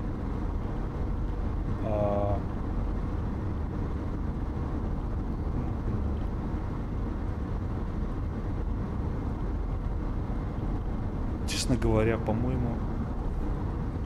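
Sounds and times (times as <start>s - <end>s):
car road noise from inside: 0.0s - 14.0s.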